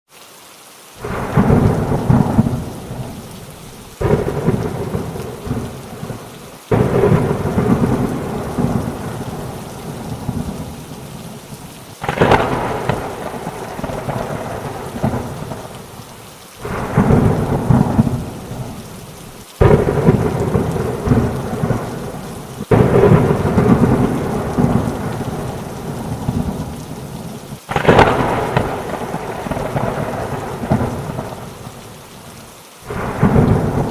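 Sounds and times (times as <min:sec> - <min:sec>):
heavy rain hissing: 0:00.1 - 0:33.9
thunder rumbling: 0:01.0 - 0:31.9, 0:32.9 - 0:33.9.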